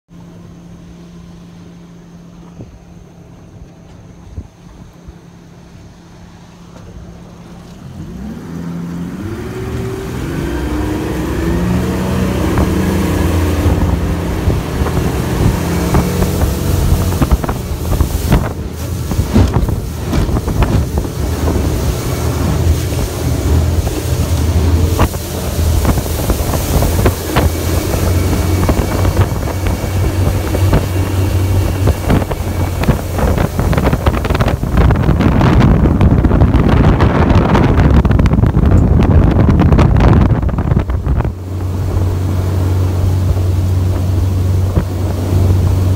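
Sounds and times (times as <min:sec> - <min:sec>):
boat motor revving: 0:00.1 - 0:45.9
water rushing past hull: 0:00.1 - 0:45.9
wind buffeting microphone: 0:02.4 - 0:06.0, 0:06.6 - 0:45.9.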